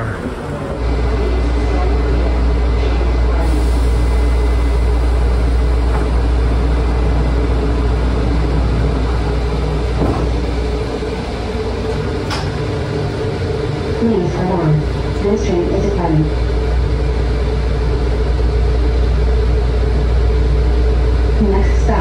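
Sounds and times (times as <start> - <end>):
people-mover train rumble: 0.0 - 22.0.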